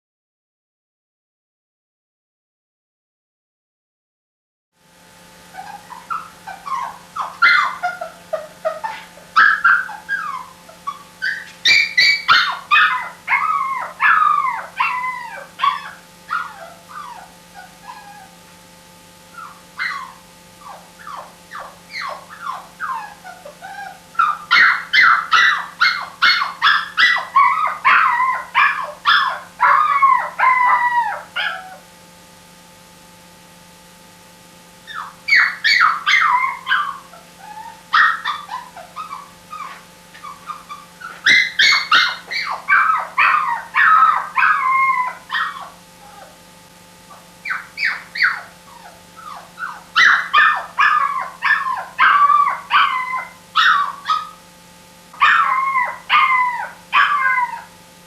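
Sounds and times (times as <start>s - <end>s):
puppy whining and yelping: 5.5s - 18.4s, 19.3s - 31.9s, 34.9s - 46.4s, 47.1s - 54.4s, 55.2s - 57.8s.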